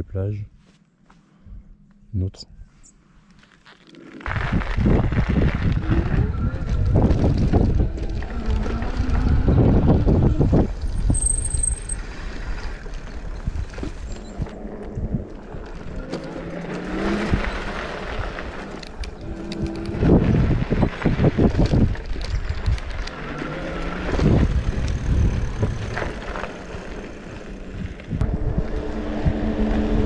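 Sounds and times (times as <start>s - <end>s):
vehicle low rumble on rough trail: 0.0s - 30.0s.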